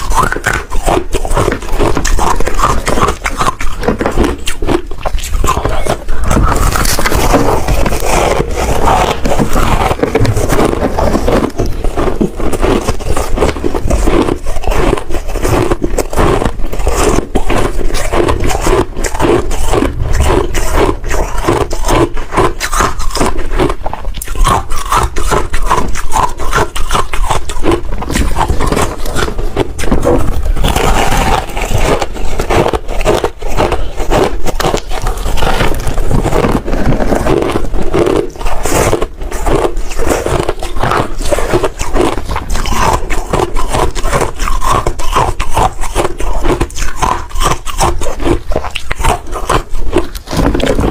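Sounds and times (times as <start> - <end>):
chewing crunchy shaved ice: 0.0 - 50.9.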